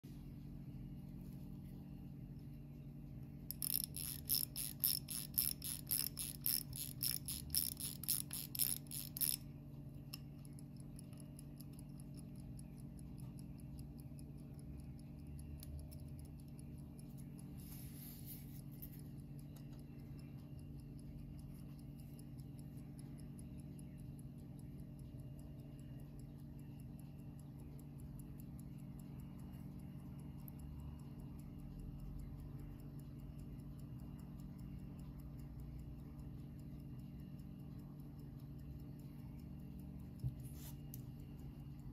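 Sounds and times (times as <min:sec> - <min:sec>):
low steady hum: 0:00.0 - 0:41.9
watch ticking: 0:01.8 - 0:41.9
watch winding ratchet clicks: 0:03.5 - 0:41.9.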